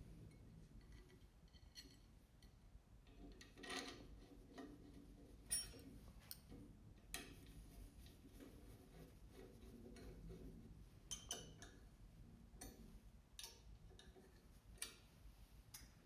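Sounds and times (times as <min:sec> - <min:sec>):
faint clicks and light knocks: 0:00.2 - 0:11.8, 0:12.5 - 0:16.0.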